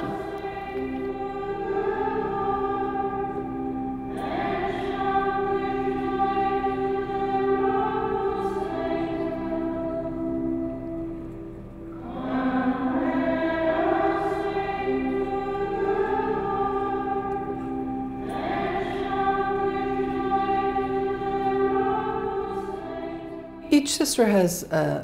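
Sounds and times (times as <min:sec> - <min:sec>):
choir singing a hymn: 0:00.0 - 0:24.4.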